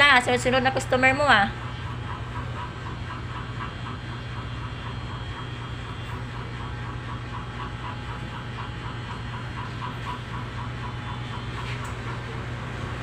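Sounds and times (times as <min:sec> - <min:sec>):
electric motors humming: 0:00.0 - 0:13.0.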